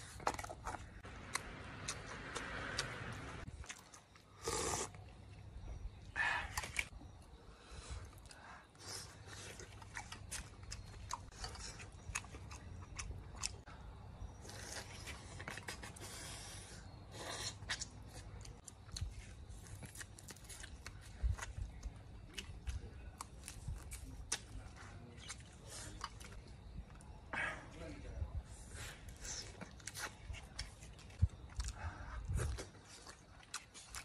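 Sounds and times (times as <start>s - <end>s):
chewing and biting food: 0.0s - 5.4s, 8.0s - 16.6s, 17.2s - 27.1s, 29.0s - 34.0s.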